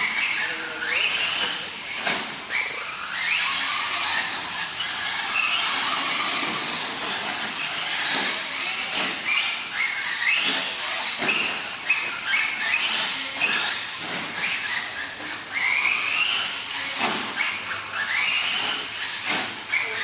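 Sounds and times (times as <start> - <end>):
rc truck motor whine: 0.0 - 20.0.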